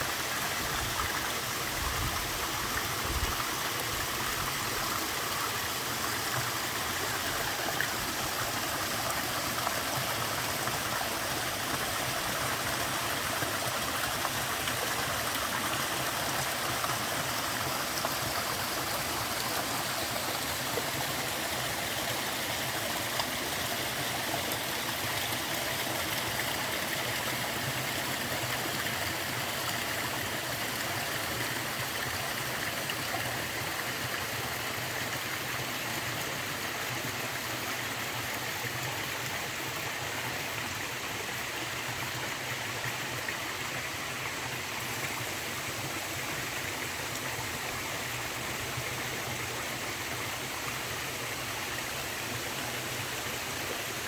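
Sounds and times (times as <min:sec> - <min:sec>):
small waterfall pouring: 0:00.0 - 0:54.0.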